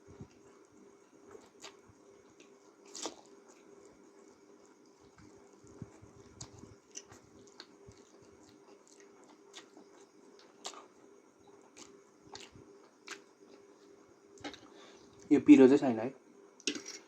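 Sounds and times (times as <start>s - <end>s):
person chewing noodles: 0.0s - 15.3s.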